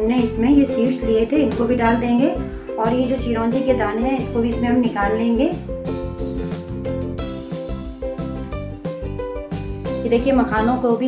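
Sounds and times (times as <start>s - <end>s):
plucked string instrumental music: 1.4s - 11.0s.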